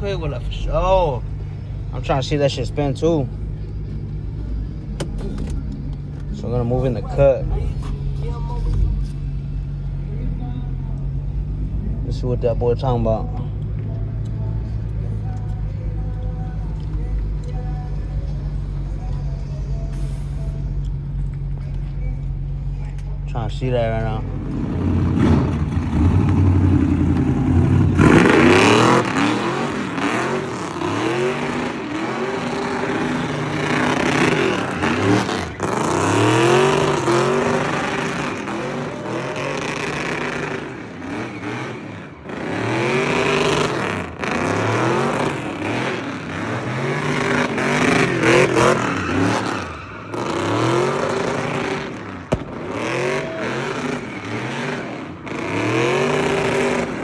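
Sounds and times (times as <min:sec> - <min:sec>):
engine revving: 0:00.0 - 0:57.0.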